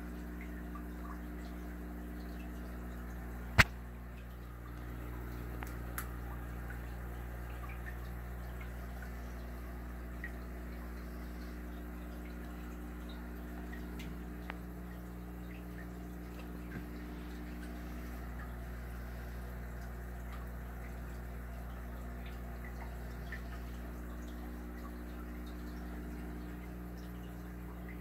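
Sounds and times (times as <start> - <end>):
aquarium filter hum: 0.0 - 28.0
small ticks and plinks: 0.0 - 28.0
water trickling and dripping: 0.0 - 28.0.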